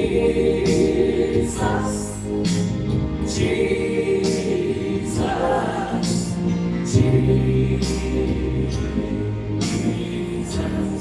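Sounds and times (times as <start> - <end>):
choir singing worship chorus: 0.0 - 11.0.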